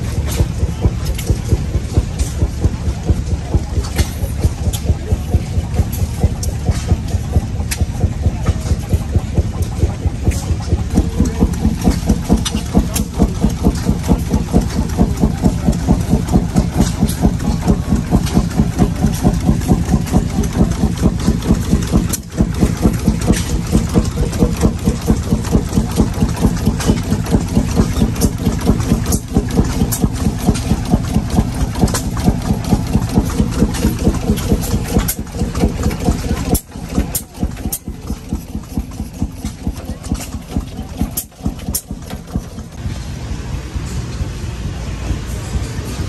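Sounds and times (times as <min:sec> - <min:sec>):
old gas engines chugging: 0:00.0 - 0:46.0.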